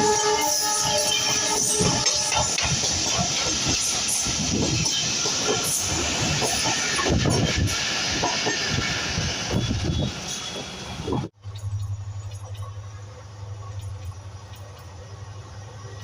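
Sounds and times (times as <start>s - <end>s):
train rumbling and hissing: 0.0s - 16.0s.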